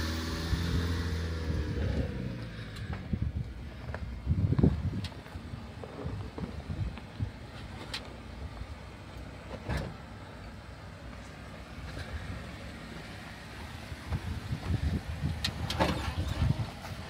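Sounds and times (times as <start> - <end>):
jeep engine running low: 0.0 - 17.0.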